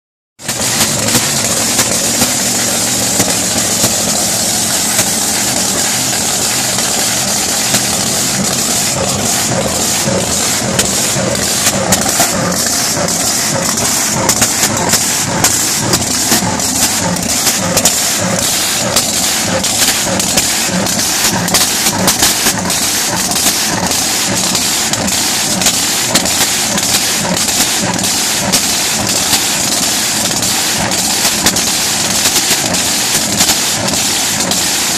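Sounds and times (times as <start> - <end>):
sharp engine cracks: 0.4 - 34.9
supercharged engine running loudly: 0.4 - 34.9.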